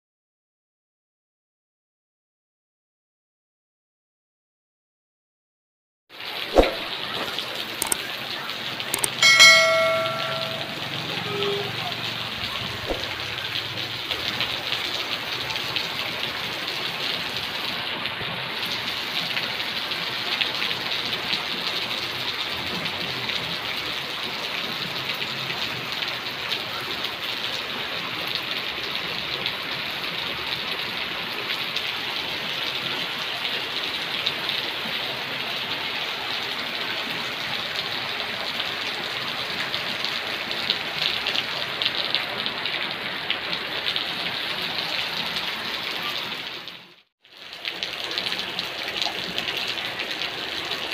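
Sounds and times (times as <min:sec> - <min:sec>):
heavy rain on pavement: 0:06.2 - 0:09.2, 0:10.8 - 0:50.9.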